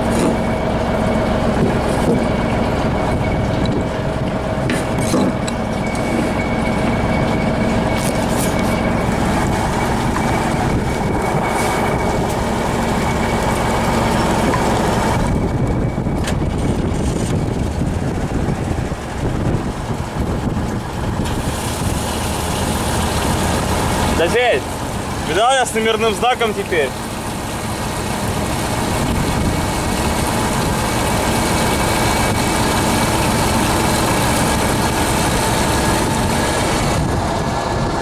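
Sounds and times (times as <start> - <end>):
diesel pumped through hose: 0.0 - 15.6, 19.2 - 38.0
engine running: 0.0 - 38.0.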